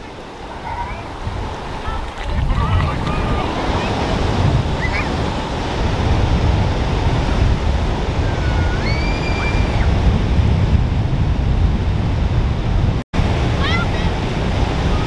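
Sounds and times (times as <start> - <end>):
ocean surf washing in: 0.0 - 15.0
wind rumbling on microphone: 0.0 - 15.0.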